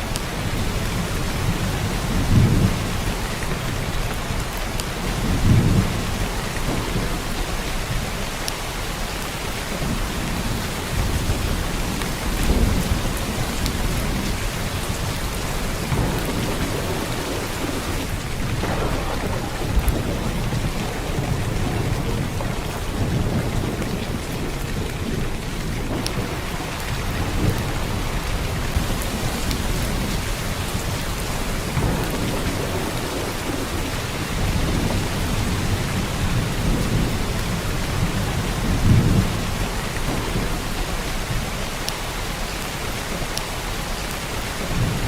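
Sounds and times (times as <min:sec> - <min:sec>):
heavy rain hissing: 0:00.0 - 0:45.0
thunder rumbling: 0:00.0 - 0:45.0.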